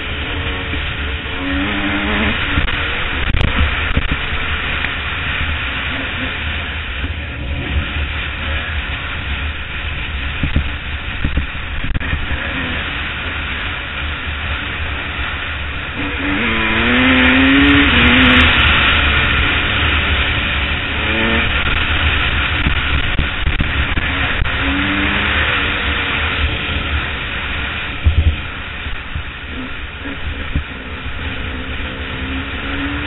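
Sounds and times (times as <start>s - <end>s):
dirt bike engine: 0.0s - 33.0s
wind rush on camera: 0.0s - 33.0s.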